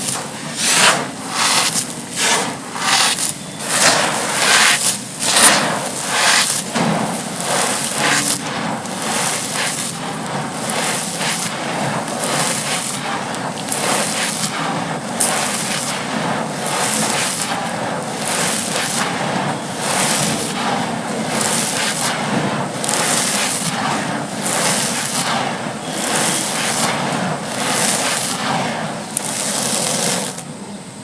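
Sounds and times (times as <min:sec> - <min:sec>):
sand crumbling and crunching: 0:00.0 - 0:30.6.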